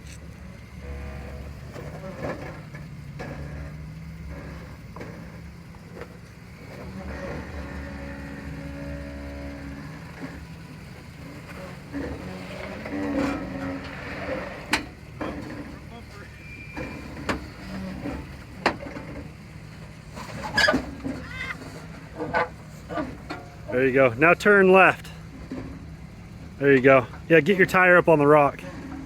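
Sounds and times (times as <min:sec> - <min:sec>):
low engine hum: 0:00.0 - 0:29.0
suspension groaning and creaking: 0:00.0 - 0:29.0.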